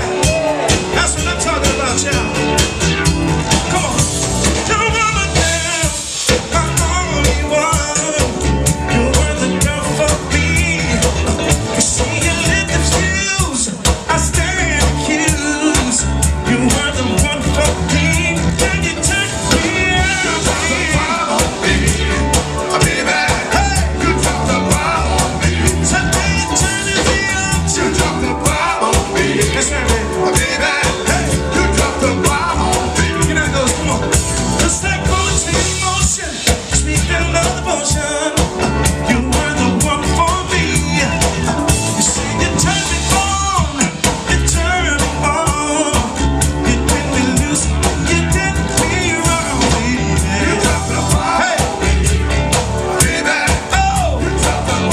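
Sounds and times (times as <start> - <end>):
lead singer: 0.0 - 54.9
live soul band playing: 0.0 - 54.9.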